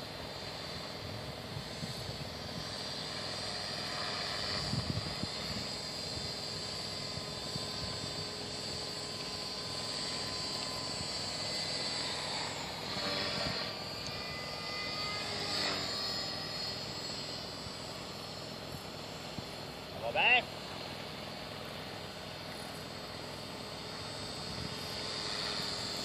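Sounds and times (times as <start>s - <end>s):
distant rc helicopter whine: 0.0s - 26.0s.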